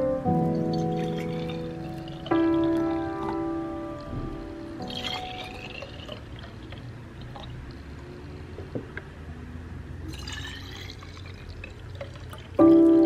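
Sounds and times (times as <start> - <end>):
juice pouring into glass bottles: 0.6 - 8.3, 10.1 - 13.0.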